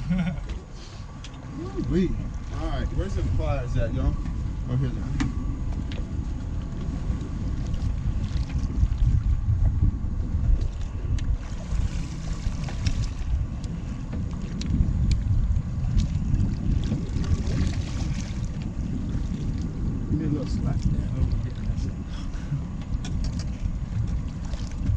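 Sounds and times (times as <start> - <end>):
water splashing against boat: 0.0 - 24.9
wind rumbling on microphone: 0.0 - 24.9.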